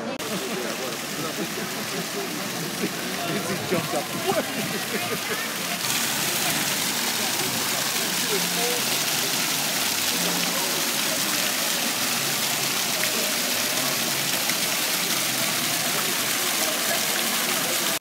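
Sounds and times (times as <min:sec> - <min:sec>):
fountain water splashing: 0:00.0 - 0:18.0
water jets falling on pool: 0:00.0 - 0:18.0.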